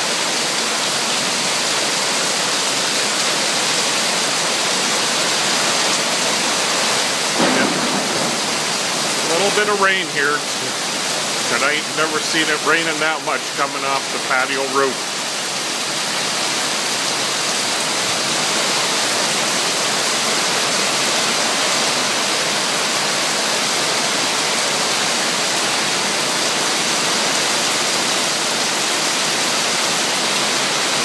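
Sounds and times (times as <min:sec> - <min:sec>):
heavy rain pouring: 0:00.0 - 0:31.0
runoff water splashing: 0:00.1 - 0:31.0.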